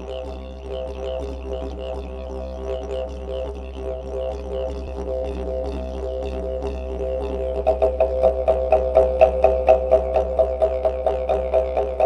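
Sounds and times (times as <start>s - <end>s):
didgeridoo drone: 0.0s - 12.0s.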